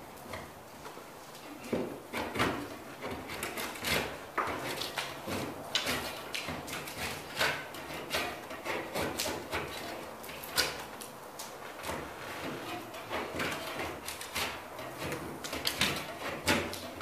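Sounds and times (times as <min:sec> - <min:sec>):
metal knife scraping drywall: 0:02.1 - 0:11.0, 0:11.6 - 0:17.0.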